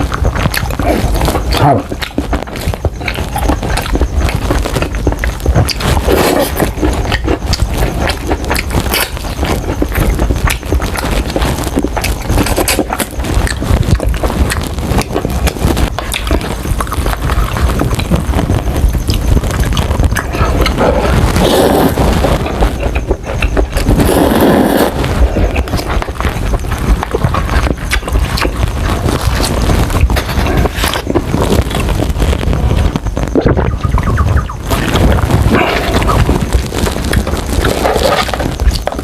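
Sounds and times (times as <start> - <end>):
crunchy chewing of fried chicken: 0.0 - 39.0.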